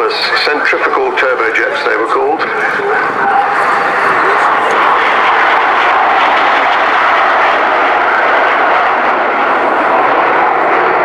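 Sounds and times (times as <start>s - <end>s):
jet aircraft engines roaring: 0.0s - 11.0s.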